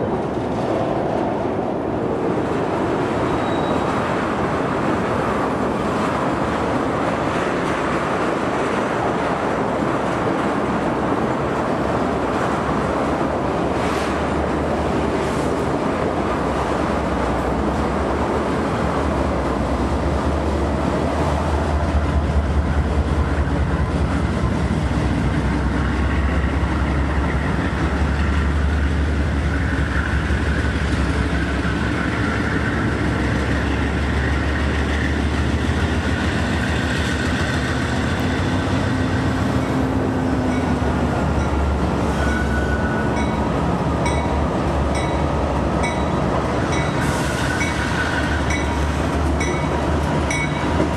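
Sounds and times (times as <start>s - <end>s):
train rumbling over rails: 0.0s - 50.9s.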